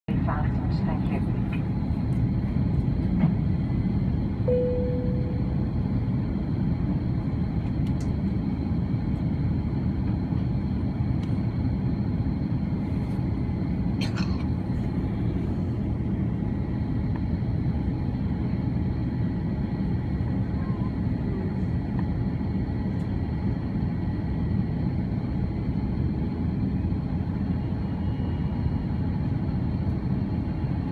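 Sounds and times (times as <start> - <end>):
airliner cabin engine rumble: 0.0 - 30.9.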